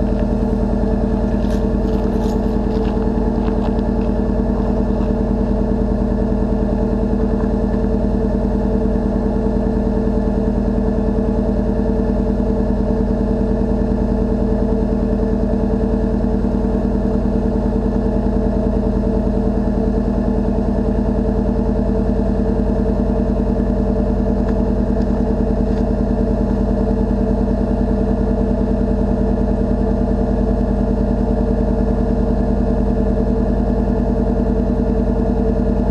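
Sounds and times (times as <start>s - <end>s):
pickup truck engine idling: 0.0s - 35.9s.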